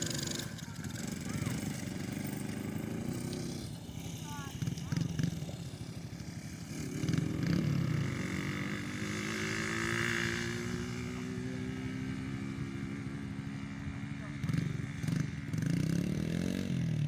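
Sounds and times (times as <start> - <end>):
small gasoline engine running: 0.0 - 17.0.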